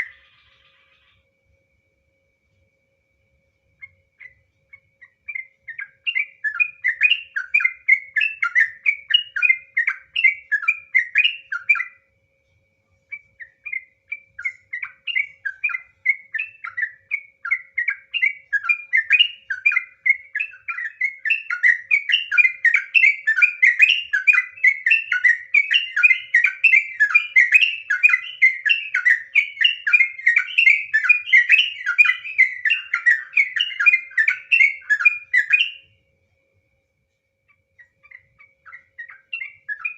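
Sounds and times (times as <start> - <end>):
bulbul chirping song: 0.0 - 1.5, 3.6 - 36.0, 37.1 - 39.9.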